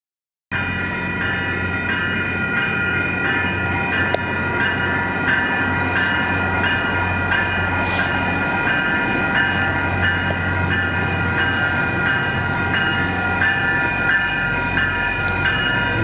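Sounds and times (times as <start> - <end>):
railroad crossing bell ringing: 0.5 - 16.0
train hum: 0.5 - 16.0.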